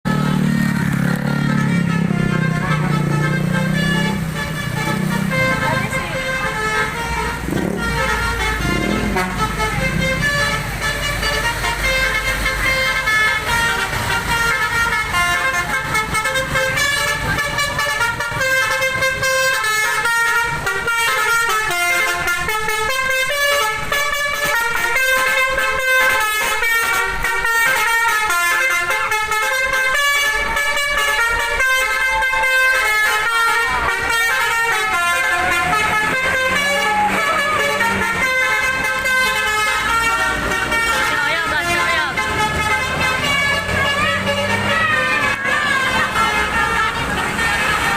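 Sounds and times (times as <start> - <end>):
musical air horn tune: 0.1 - 47.9.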